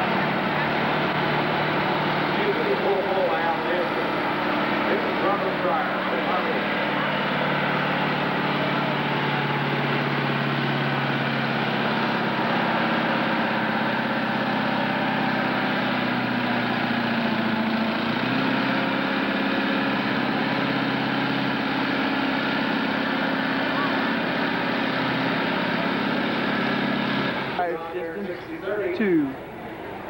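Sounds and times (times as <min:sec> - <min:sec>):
tractor diesel engine running hard: 0:00.0 - 0:30.0.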